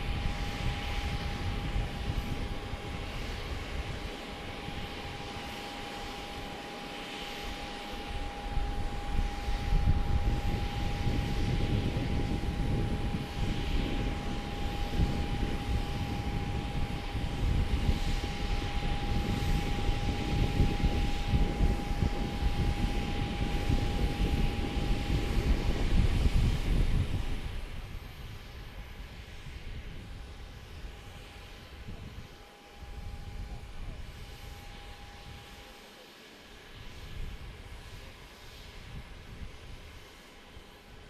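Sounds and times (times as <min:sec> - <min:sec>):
jet engines low rumble: 0:00.0 - 0:41.0
thin jet engine whine: 0:00.0 - 0:41.0.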